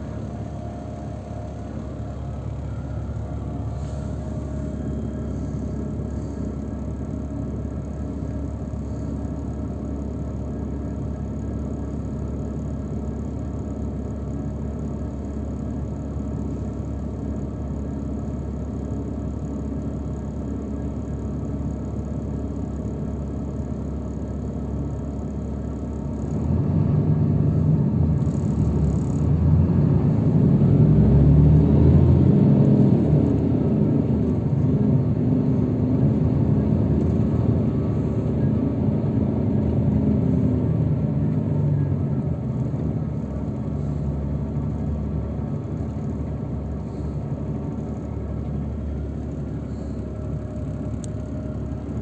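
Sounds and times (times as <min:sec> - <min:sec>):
vehicle engine and road noise: 0:00.0 - 0:52.0.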